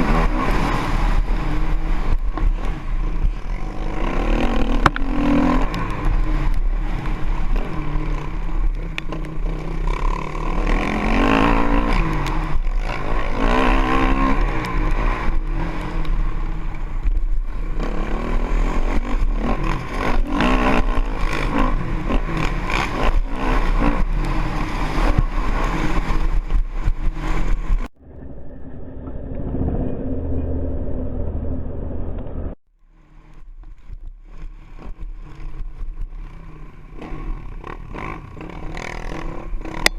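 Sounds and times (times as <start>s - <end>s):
motorcycle engine revving: 0.0s - 28.1s, 28.8s - 39.9s.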